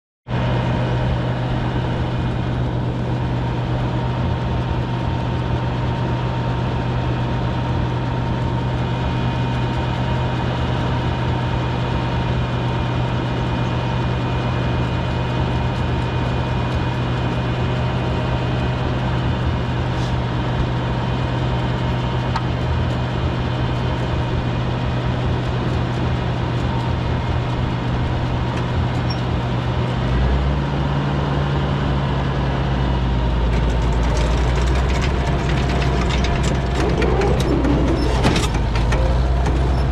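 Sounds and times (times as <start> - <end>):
tractor engine idling: 0.4 - 29.9, 32.9 - 39.9.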